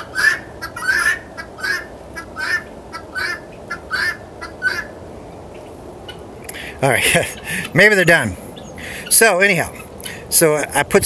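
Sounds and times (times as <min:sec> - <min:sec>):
guinea fowl squawking: 0:00.0 - 0:10.8.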